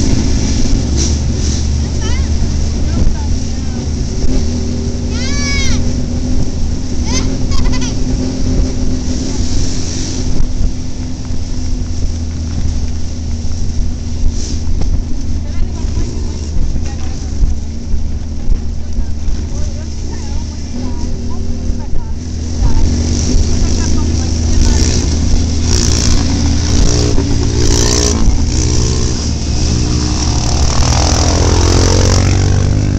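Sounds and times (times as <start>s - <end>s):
motorcycle engine running: 0.0s - 32.9s
wind buffeting microphone: 0.0s - 32.9s.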